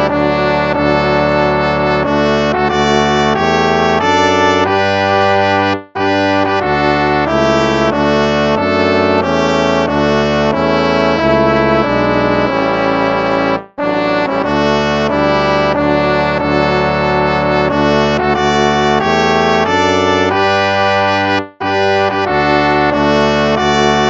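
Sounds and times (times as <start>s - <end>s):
brass-like hymn chords: 0.0s - 24.0s.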